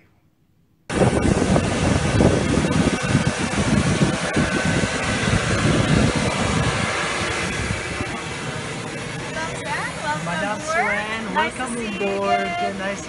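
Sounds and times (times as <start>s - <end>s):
air conditioning rushing: 0.9s - 13.0s
fluttering low rumble: 0.9s - 13.0s.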